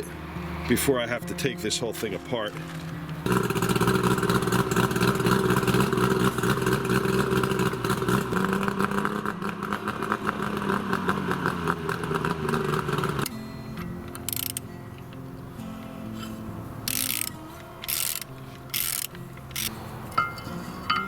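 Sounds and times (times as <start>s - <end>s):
engine running steadily: 2.5s - 21.0s.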